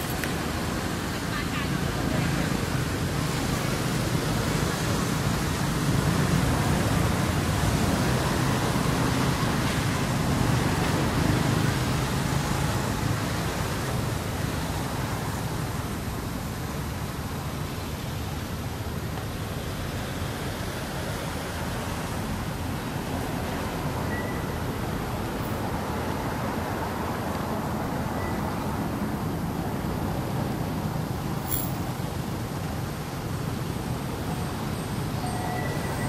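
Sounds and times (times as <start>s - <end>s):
steady outdoor rushing noise: 0.0s - 36.0s.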